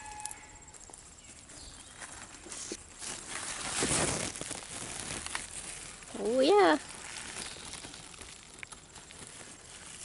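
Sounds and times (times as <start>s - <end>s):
leaves and vines rustling: 0.0s - 10.0s.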